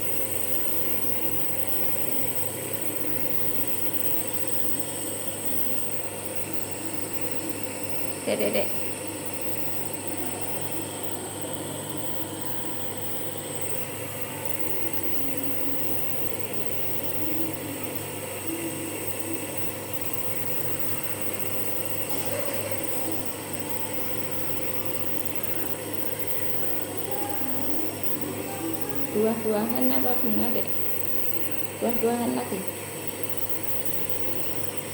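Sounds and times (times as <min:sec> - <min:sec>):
nebulizer humming and hissing: 0:00.0 - 0:34.9.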